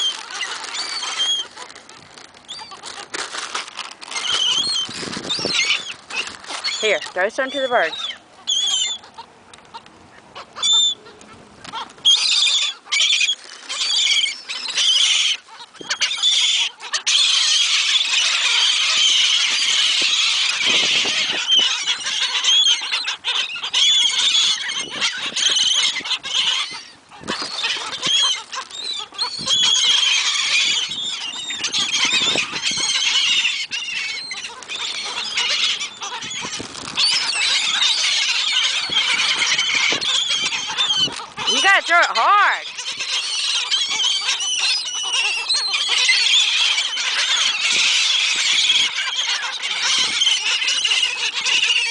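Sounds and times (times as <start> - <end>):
seagulls calling: 0.0 - 51.9.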